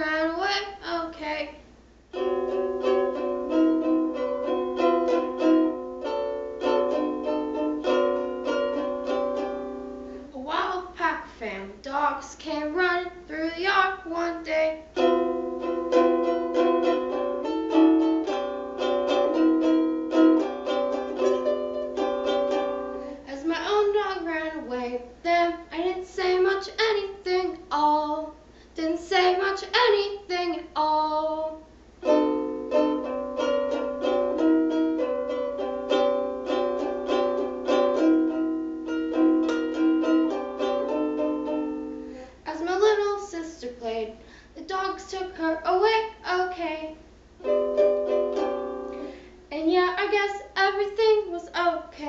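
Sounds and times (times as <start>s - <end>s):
ukulele strumming chords: 2.1s - 11.1s, 12.5s - 27.7s, 29.0s - 43.2s, 44.7s - 51.9s.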